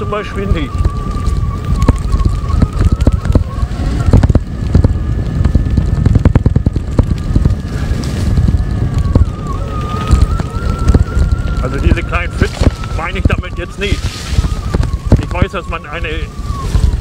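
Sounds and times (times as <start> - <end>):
electric motorcycle whine: 0.0 - 17.0
rumbling and rattles over rough ground: 0.0 - 17.0.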